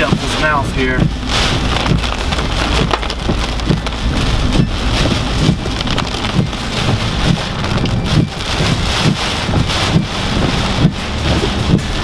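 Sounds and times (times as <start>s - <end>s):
rain on a car: 0.0s - 12.0s
strong wind: 0.0s - 12.0s
wind gusts buffeting microphone: 0.0s - 12.0s.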